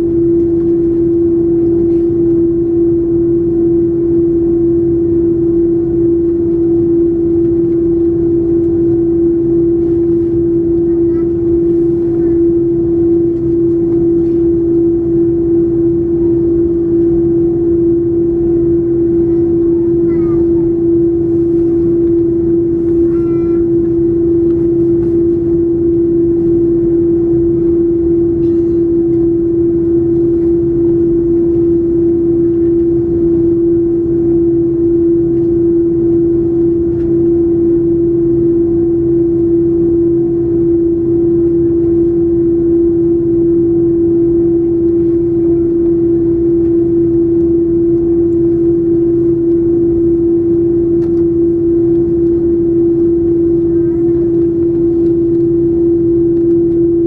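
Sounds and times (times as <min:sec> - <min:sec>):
airplane cabin engine hum: 0:00.0 - 0:57.0.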